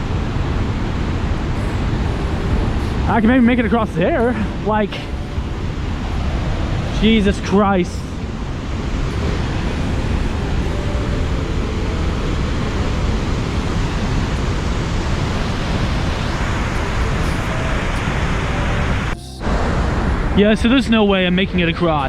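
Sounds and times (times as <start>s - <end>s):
creek rapids rushing: 0.0s - 22.0s.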